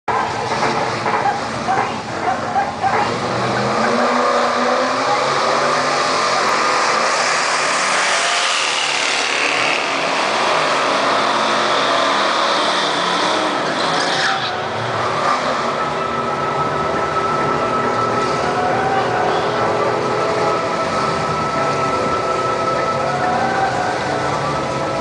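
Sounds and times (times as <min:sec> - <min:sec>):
car engine revving hard: 0:02.8 - 0:25.0.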